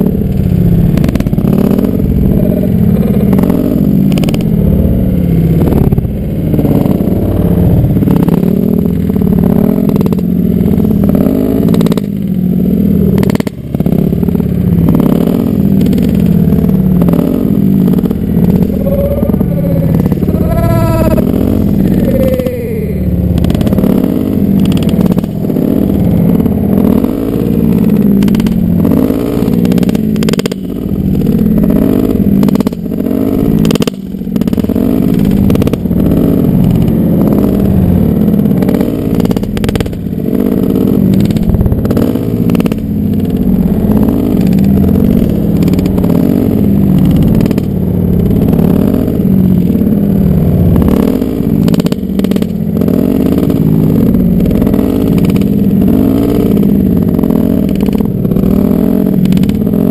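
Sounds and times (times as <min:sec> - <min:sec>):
dirt bike engine idling: 0:00.0 - 0:59.9.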